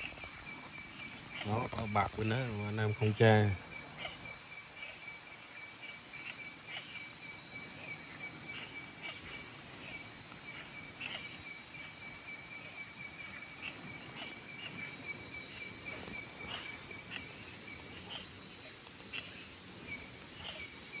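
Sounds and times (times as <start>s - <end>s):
crickets chirping: 0.0s - 21.0s
pulsing insect trill: 0.0s - 21.0s.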